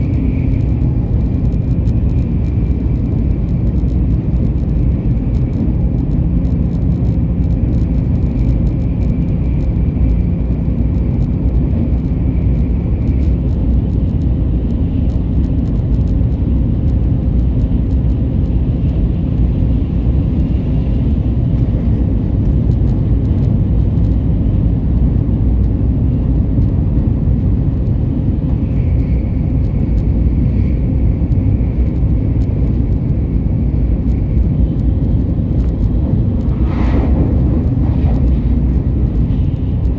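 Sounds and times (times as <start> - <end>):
vehicle rumbling in motion: 0.0 - 39.9.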